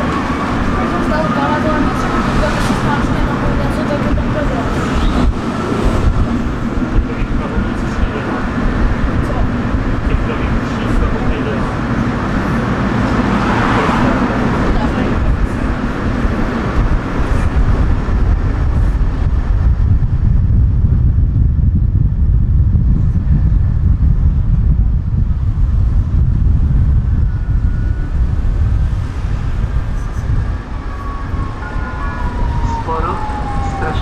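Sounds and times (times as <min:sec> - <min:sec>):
tram wheels rumbling on rails: 0:00.0 - 0:34.0.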